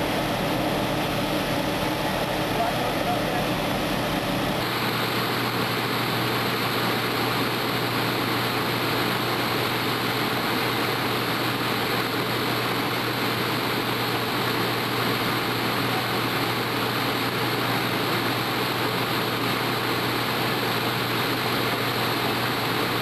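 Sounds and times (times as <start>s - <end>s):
machinery droning with low hum: 0.0s - 23.0s.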